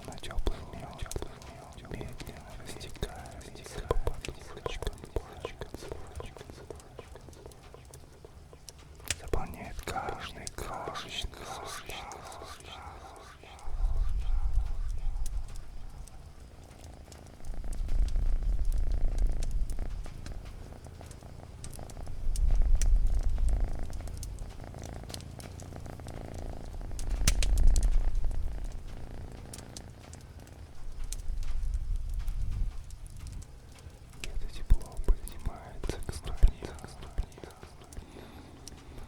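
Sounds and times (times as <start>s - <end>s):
cat purring: 0.0s - 39.0s
wood fire crackling: 0.0s - 39.0s.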